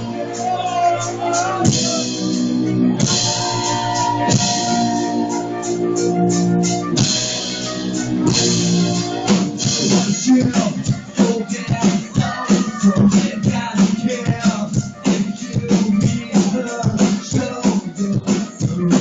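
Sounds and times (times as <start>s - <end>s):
live band playing: 0.0s - 19.0s.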